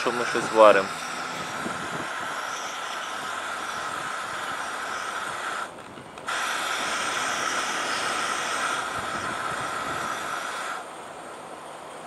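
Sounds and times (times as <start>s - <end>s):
stove burner hissing: 0.0s - 10.9s.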